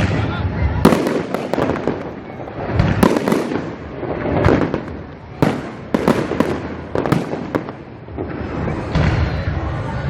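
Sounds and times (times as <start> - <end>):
fireworks bursting with crackling: 0.0 - 10.0.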